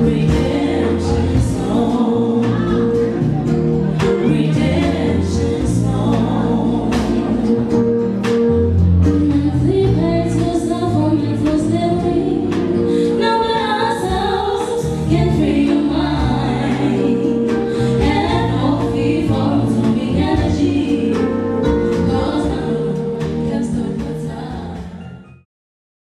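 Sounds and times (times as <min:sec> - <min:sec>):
women singing together: 0:00.0 - 0:07.9, 0:09.2 - 0:25.0
backing music: 0:00.0 - 0:25.4.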